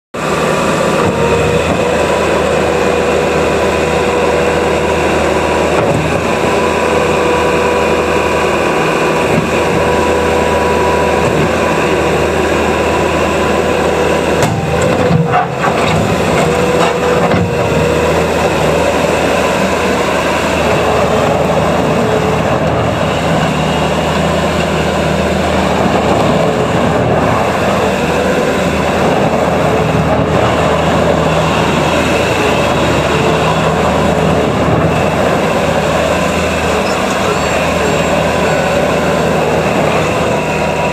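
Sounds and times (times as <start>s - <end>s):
diesel engine running: 0.2s - 40.9s
steady whine: 0.2s - 40.9s.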